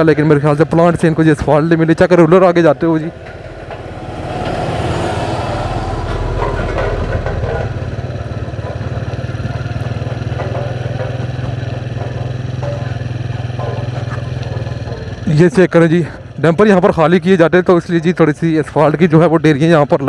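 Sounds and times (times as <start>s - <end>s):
motorcycle engine running: 0.0s - 20.0s
road and wind noise: 0.0s - 20.0s.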